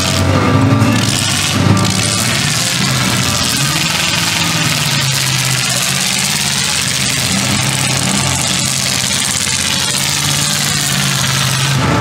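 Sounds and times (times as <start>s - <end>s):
loud car engines running: 0.0s - 12.0s.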